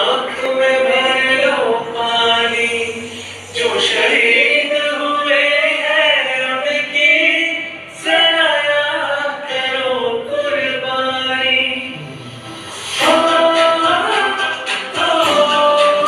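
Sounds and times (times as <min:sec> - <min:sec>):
person singing with sliding notes: 0:00.0 - 0:16.0.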